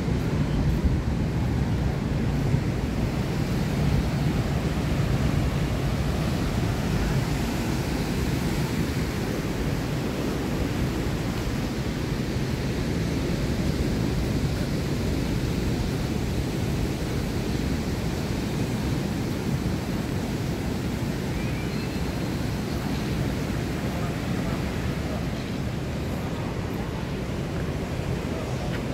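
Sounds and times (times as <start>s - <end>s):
ocean surf rushing: 0.0s - 28.9s.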